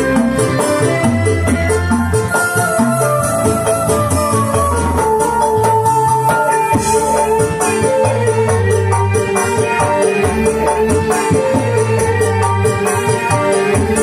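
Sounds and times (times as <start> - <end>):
percussion band music over speakers: 0.0 - 14.0.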